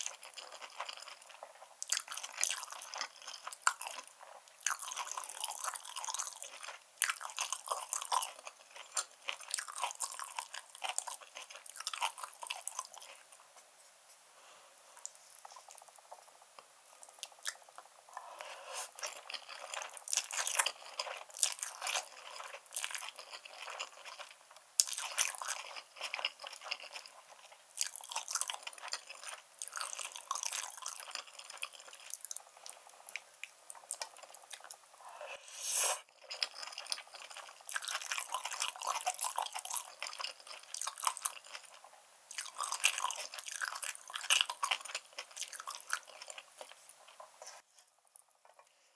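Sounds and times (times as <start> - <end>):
chewing with mouth clicks: 0.0 - 13.5, 14.8 - 35.0, 36.1 - 48.7.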